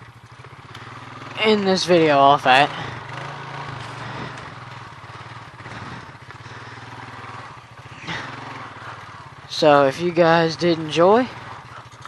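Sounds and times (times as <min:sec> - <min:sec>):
four-wheeler engine running: 0:00.0 - 0:12.0.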